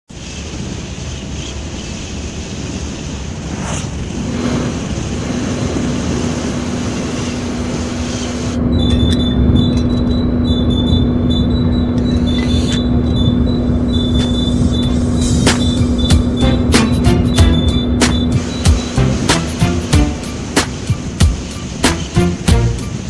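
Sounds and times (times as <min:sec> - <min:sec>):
engine rumble with hiss: 0:00.1 - 0:23.0
steady hum: 0:00.1 - 0:23.0
thin high whine: 0:03.4 - 0:23.0.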